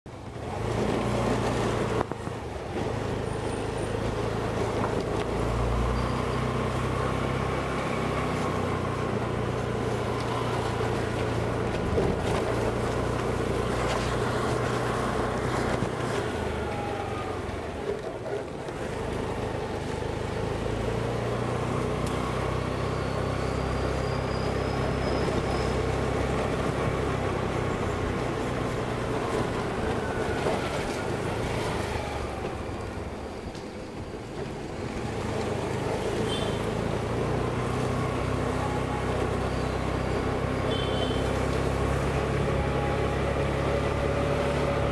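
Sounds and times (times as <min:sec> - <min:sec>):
road and wind noise: 0:00.1 - 0:44.9
scooter engine running: 0:06.3 - 0:33.3, 0:34.0 - 0:44.9.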